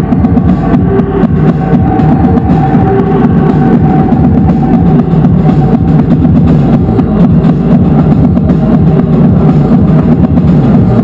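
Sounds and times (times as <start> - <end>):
distorted noise music: 0.0 - 11.0
droning tones: 0.0 - 11.0
fast continuous drumming: 0.0 - 11.0.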